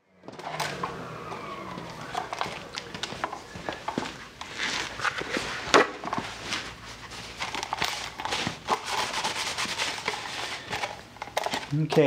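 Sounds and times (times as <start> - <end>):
rustling of person moving about: 0.2 - 12.0
clicks and knocks of handling parts: 1.8 - 12.0.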